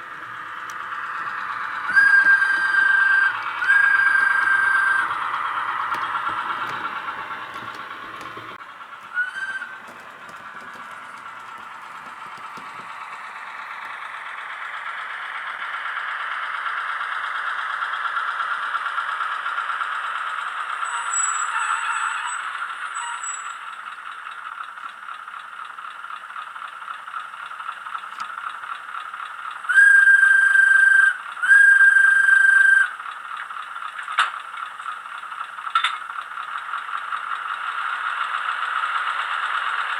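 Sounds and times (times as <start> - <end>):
model diesel engine sound: 0.0 - 39.9.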